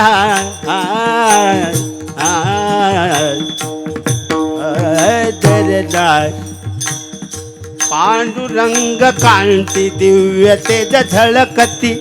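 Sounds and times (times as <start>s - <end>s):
person singing devotional song: 0.0s - 7.2s, 7.8s - 12.0s
hand cymbals clinking: 0.0s - 12.0s.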